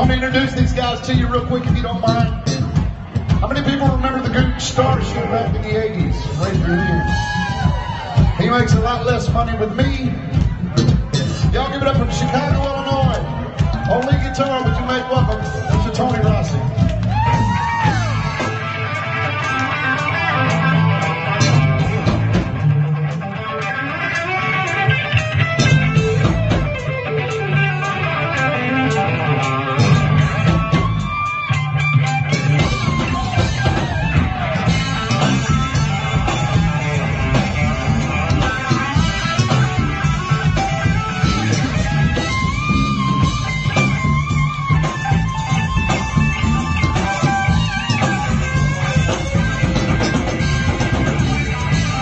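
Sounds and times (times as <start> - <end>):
bass guitar: 0.0 - 52.0
drums: 0.0 - 52.0
electric guitar solo: 0.1 - 52.0.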